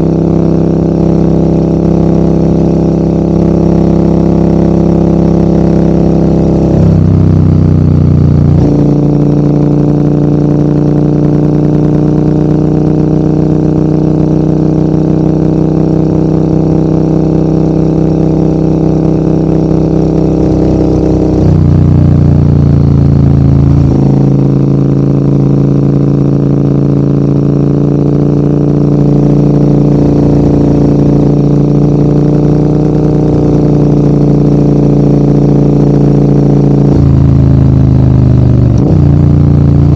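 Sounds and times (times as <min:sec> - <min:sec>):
motorcycle engine pulling uphill: 0:03.2 - 0:39.9.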